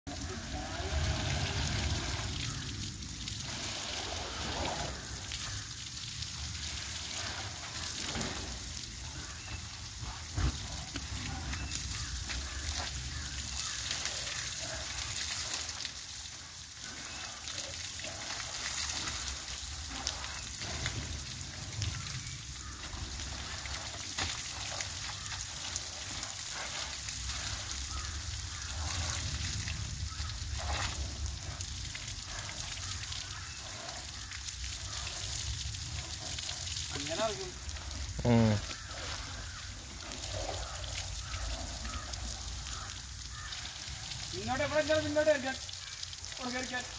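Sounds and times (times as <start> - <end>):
water spray splashing: 0.1 - 46.9.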